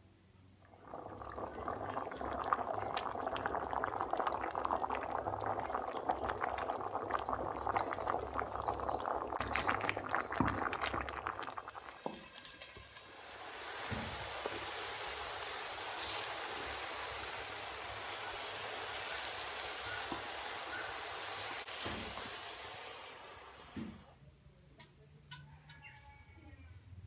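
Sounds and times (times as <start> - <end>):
water boiling in metal pot: 0.6 - 24.2.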